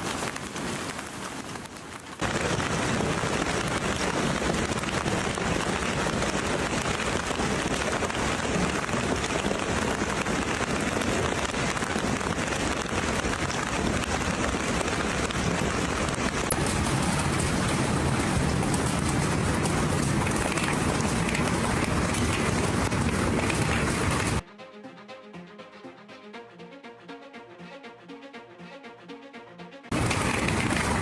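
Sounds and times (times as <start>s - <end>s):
rain and hail pelting: 0.0s - 24.4s, 29.9s - 31.0s.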